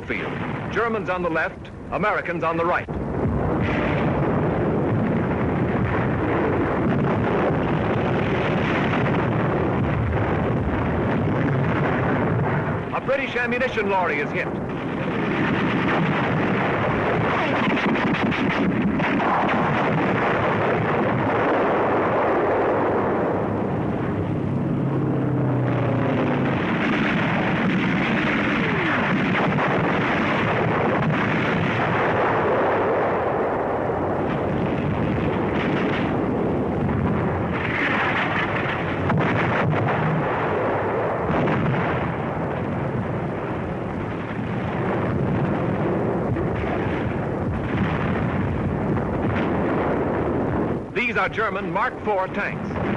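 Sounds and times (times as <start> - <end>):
artillery fire: 0.0 - 52.9
explosions: 0.0 - 52.9
gunfire: 3.5 - 14.0, 14.6 - 23.0, 25.8 - 52.9.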